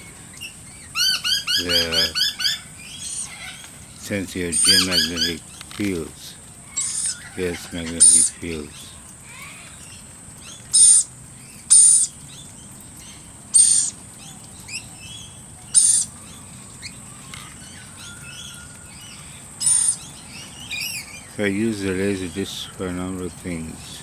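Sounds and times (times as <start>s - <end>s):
birds chirping: 0.0s - 24.0s
birds screeching: 0.0s - 24.0s.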